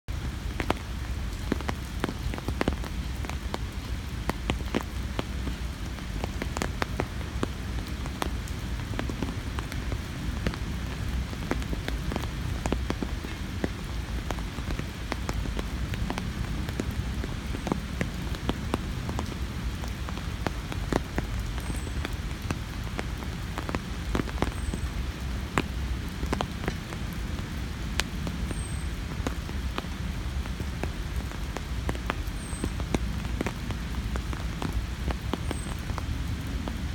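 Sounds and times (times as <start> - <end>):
rain drops ticking: 0.1 - 36.9.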